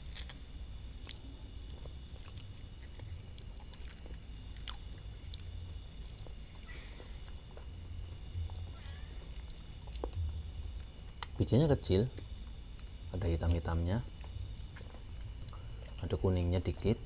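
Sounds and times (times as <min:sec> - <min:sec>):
soft chewing: 0:00.0 - 0:11.4, 0:12.1 - 0:17.0.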